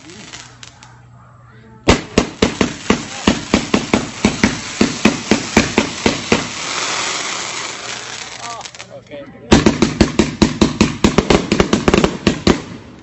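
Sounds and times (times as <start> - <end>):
steady hiss: 0.0 - 1.0, 1.9 - 13.0
fireworks bangs: 1.8 - 8.8, 9.5 - 13.0.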